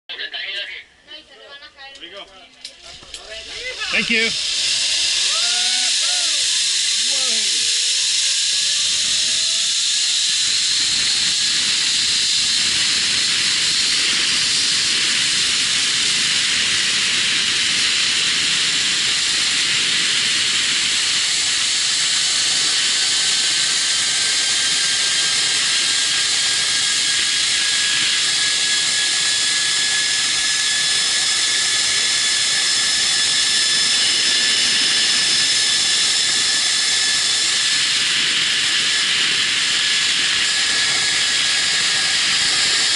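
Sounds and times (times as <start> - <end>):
pulleys hissing along steel cable: 3.0 - 42.9.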